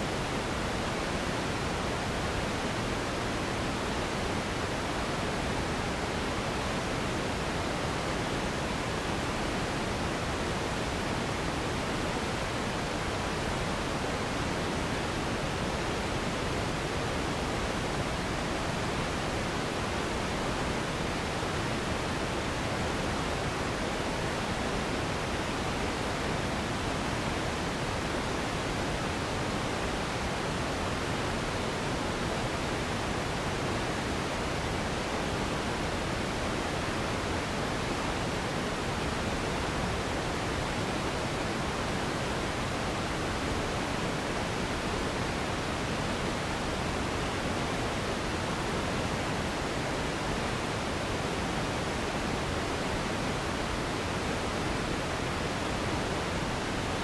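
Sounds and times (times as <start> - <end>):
steady pink noise hiss: 0.0 - 57.0.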